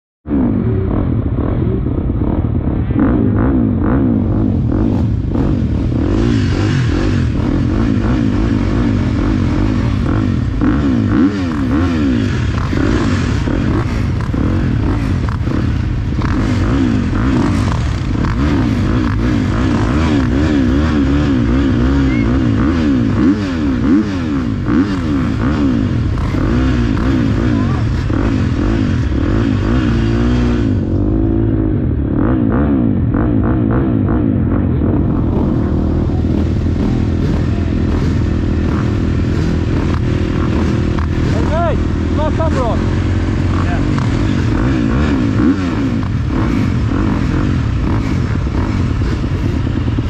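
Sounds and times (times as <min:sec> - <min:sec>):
motocross bike engine revving: 0:00.3 - 0:50.0.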